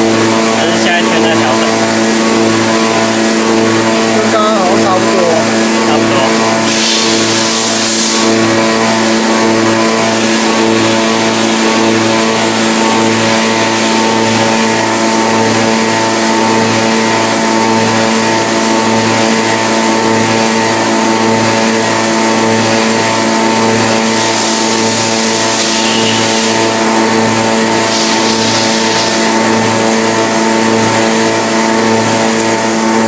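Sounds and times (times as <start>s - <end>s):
milling machine cutting metal: 0.0s - 33.0s
multi-tone spindle whine: 0.0s - 33.0s.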